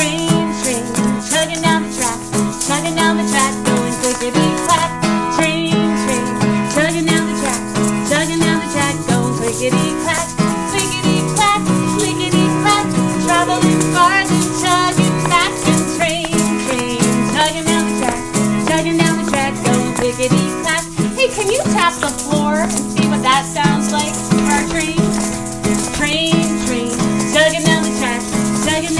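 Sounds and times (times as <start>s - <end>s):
acoustic guitar strumming: 0.0s - 28.9s
plastic egg shakers rattling: 0.0s - 28.9s.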